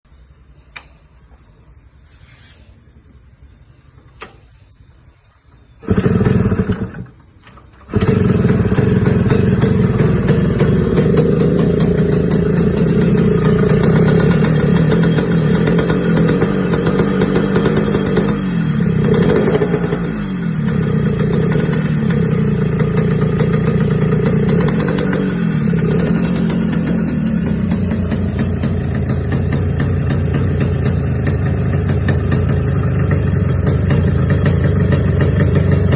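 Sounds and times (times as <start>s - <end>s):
motorcycle engine starting and revving: 5.4s - 35.9s.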